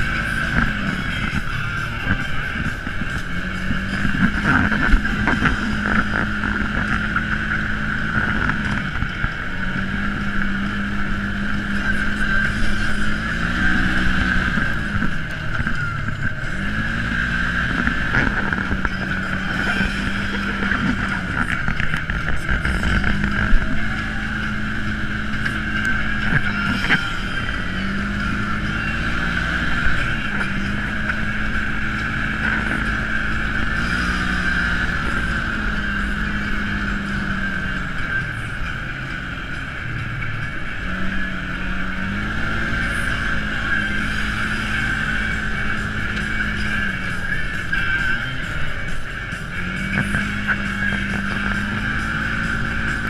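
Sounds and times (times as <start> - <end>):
rough-ground rumble: 0.0 - 53.0
utility vehicle engine running: 0.0 - 53.0.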